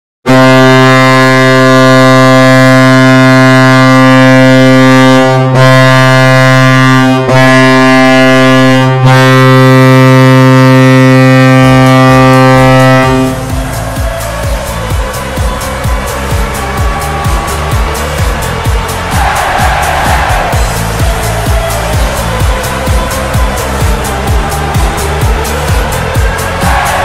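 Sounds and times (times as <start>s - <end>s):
goal horn blast: 0.2s - 27.0s
goal song music: 0.3s - 27.0s.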